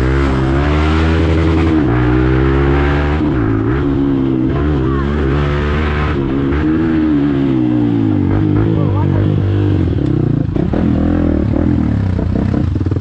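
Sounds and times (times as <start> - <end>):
motorcycle engine while riding: 0.0 - 13.0.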